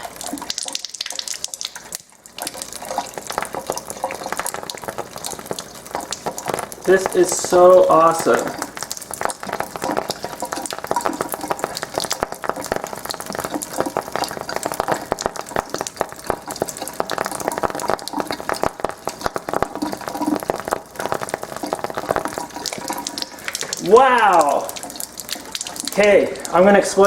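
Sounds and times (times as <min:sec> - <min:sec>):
crackling pops: 0:00.0 - 0:26.5
flowing water: 0:00.0 - 0:27.0.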